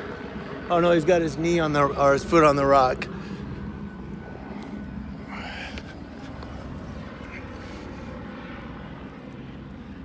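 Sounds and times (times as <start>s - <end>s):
helicopter rotor drone: 0.0s - 10.0s.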